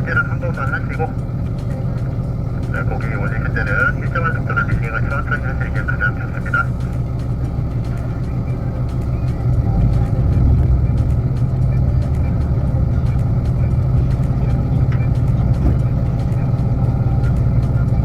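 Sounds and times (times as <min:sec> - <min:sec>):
engine low drone: 0:00.0 - 0:18.0.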